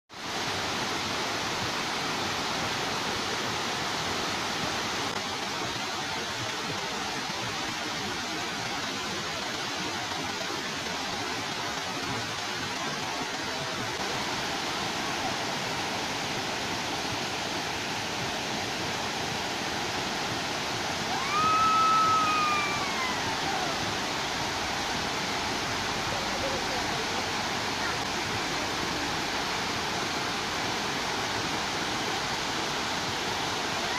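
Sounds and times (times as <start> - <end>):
water pouring down spillway: 0.2 - 33.9.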